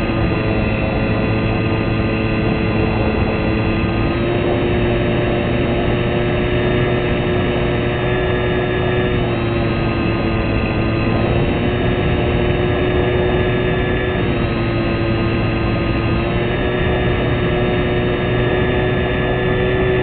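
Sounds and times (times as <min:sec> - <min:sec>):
model plane motor drone: 0:00.0 - 0:20.0.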